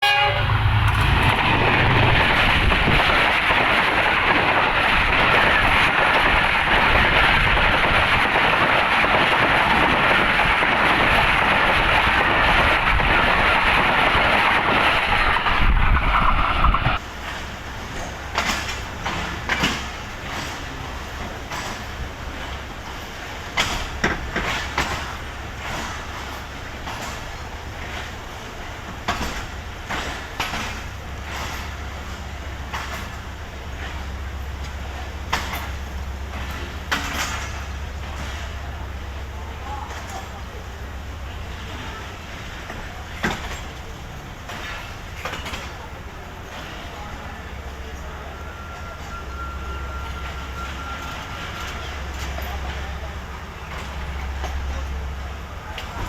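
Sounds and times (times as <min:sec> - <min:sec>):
low train hum: 0:00.0 - 0:56.0
train rail noise: 0:00.0 - 0:56.0.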